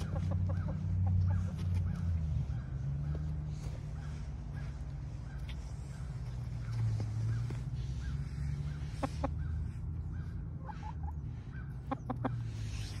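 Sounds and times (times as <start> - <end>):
chickens clucking: 0.0 - 2.3, 3.0 - 13.0.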